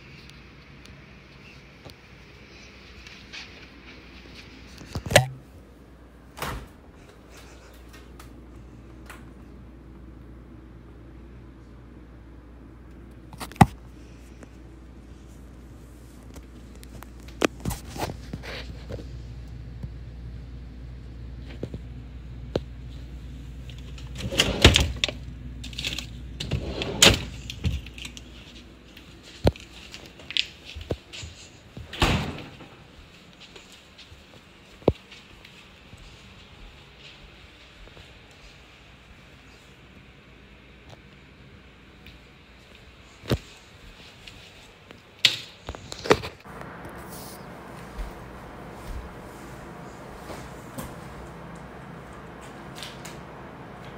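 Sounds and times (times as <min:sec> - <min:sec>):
low steady hum: 0:00.0 - 0:45.0, 0:46.4 - 0:53.9.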